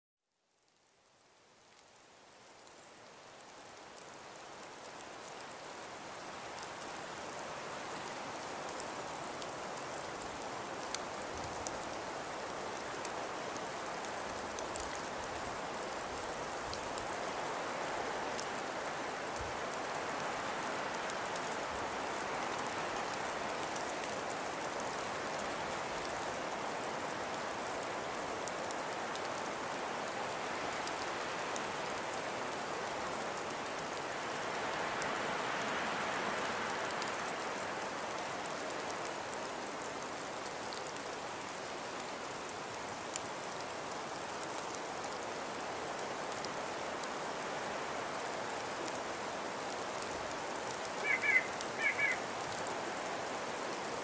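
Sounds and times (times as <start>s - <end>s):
snowstorm hiss: 1.2s - 54.0s.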